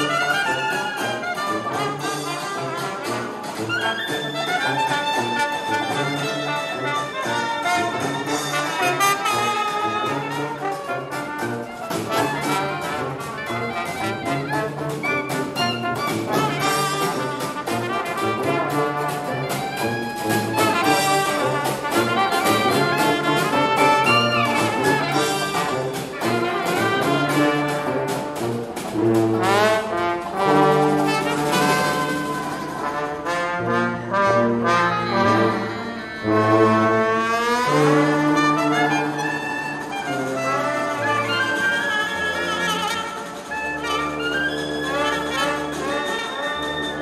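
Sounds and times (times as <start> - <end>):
jazz street band playing: 0.0 - 47.0.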